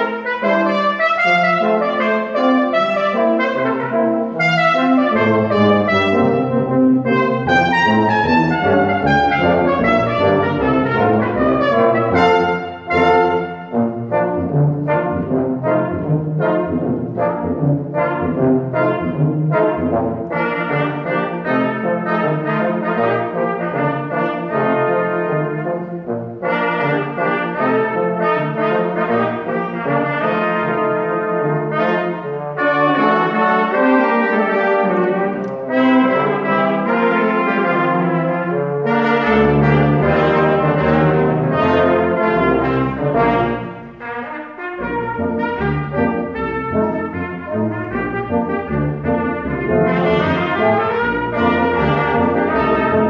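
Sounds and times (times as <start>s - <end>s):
brass ensemble playing tango: 0.0s - 53.0s
low tuba line: 0.0s - 53.0s.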